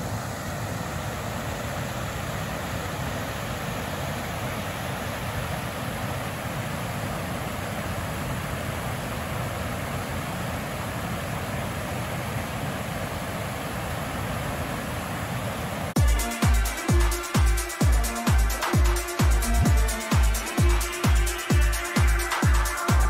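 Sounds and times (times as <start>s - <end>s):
river water pouring over weir: 0.0s - 23.0s.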